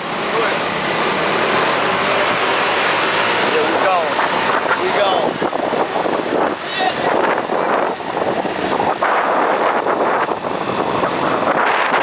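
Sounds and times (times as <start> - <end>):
scooter engine running: 0.0 - 12.0
wind buffeting microphone: 1.9 - 12.0.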